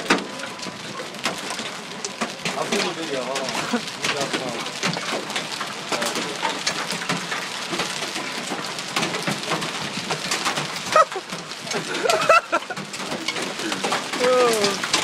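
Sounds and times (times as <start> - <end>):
hailstones clattering: 0.0 - 15.0.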